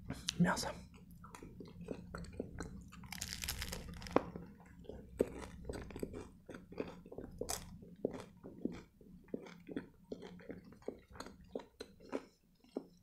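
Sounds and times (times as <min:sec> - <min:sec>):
chewing with crunches: 0:00.2 - 0:13.0.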